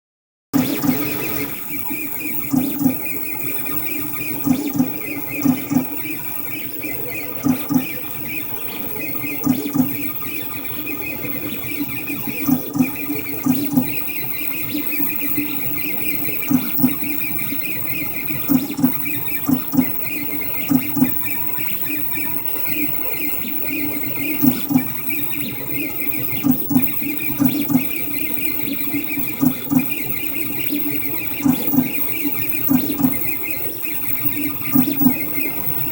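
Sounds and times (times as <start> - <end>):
high-pitched hum: 0.6 - 35.9
stepper motors whining: 0.6 - 35.9.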